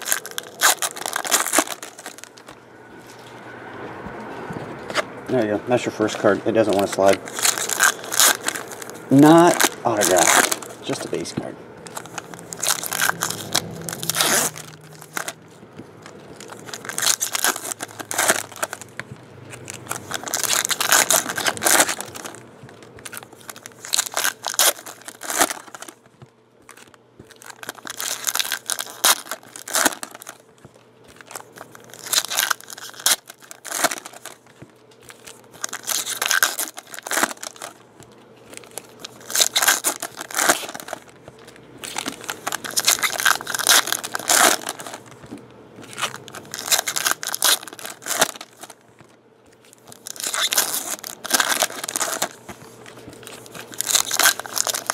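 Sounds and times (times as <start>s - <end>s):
foil wrappers tearing and crinkling: 0.0s - 2.6s, 4.9s - 54.9s.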